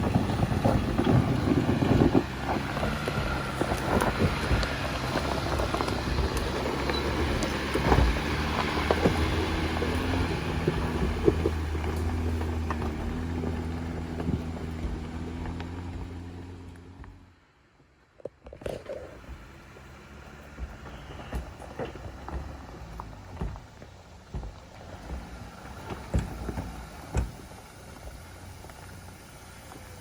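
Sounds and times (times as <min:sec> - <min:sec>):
tyres knocking and crunching on rock: 0:00.0 - 0:17.2, 0:18.2 - 0:29.0
engine running at low speed: 0:00.0 - 0:17.6, 0:18.7 - 0:30.0.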